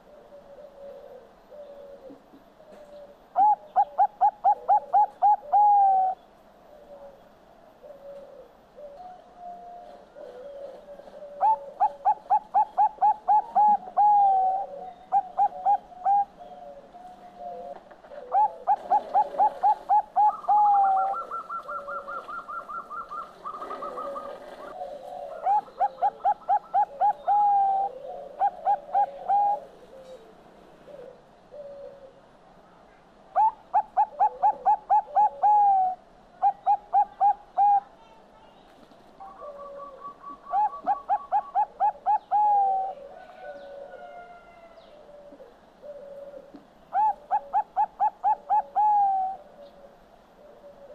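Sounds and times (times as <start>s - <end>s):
dove cooing: 0.0s - 7.2s, 7.8s - 32.4s, 33.3s - 38.2s, 39.2s - 50.9s.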